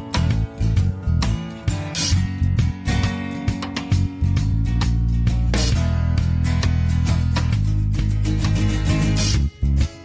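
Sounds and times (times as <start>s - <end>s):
guitar music with heavy bass: 0.0s - 10.0s.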